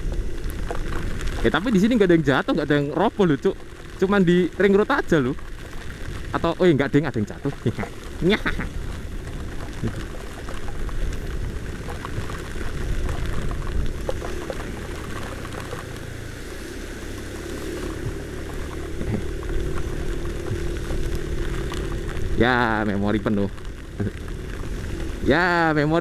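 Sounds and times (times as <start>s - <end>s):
rain and water off wet road: 0.0s - 26.0s
rain ticks: 0.0s - 26.0s.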